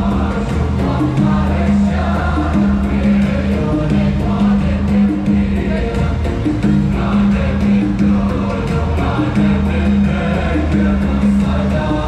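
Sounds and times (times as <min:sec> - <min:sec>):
voices singing together: 0:00.0 - 0:12.0.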